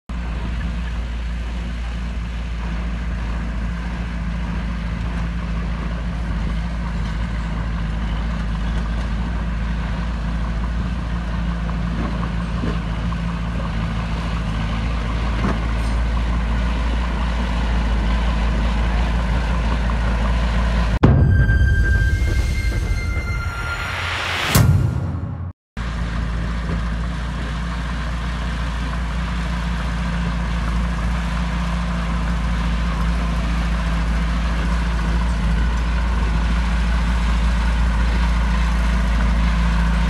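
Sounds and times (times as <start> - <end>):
bulldozer diesel engine under load: 0.1 - 21.0, 25.8 - 40.0.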